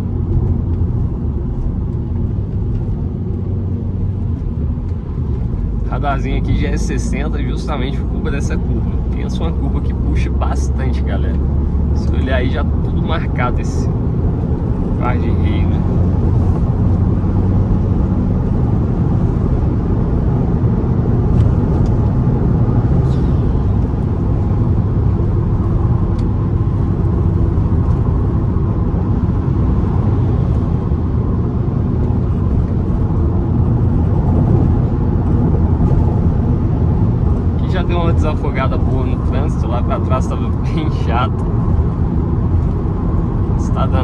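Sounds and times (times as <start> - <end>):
car engine cruising: 0.0 - 44.0
tyre and road noise: 0.0 - 44.0.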